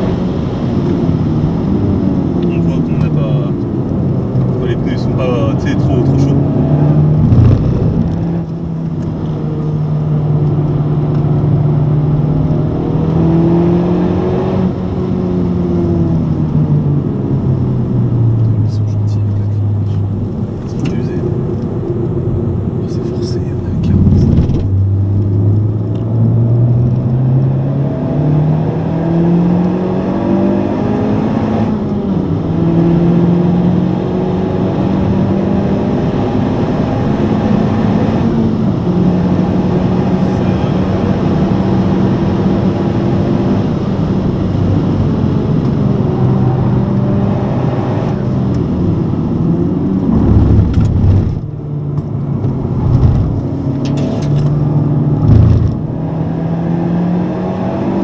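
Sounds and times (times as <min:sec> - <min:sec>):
car engine under hard acceleration: 0:00.0 - 0:58.0.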